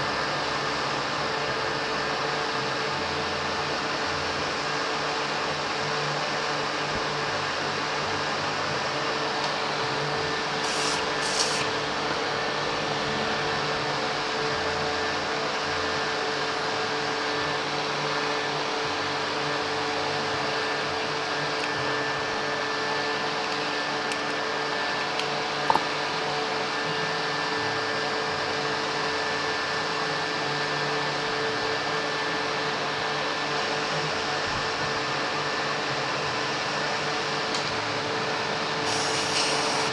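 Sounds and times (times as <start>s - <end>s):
steady whirring hum: 0.0s - 39.9s.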